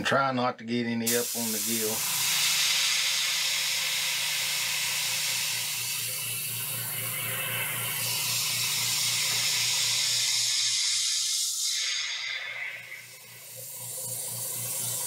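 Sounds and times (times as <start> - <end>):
compressor pulsing hum: 1.0 - 15.0
airbrush hissing: 1.1 - 15.0.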